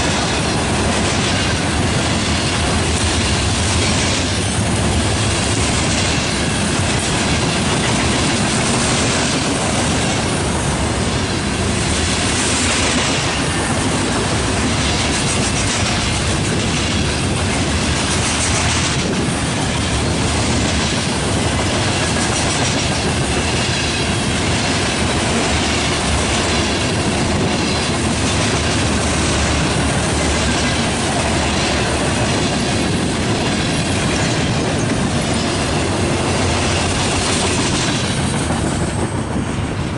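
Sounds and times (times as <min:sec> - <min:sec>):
freight train rolling past: 0:00.0 - 0:39.9
steel wheels clattering on rails: 0:00.0 - 0:39.9.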